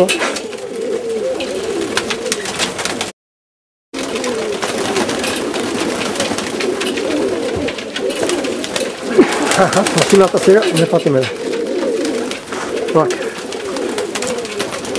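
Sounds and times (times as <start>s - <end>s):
pigeons cooing: 0.0s - 3.1s, 4.0s - 14.9s.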